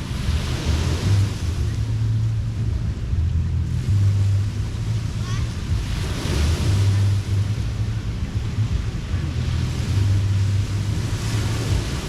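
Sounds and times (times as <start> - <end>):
surf washing in: 0.0 - 12.0
wind rumbling on microphone: 0.0 - 12.0.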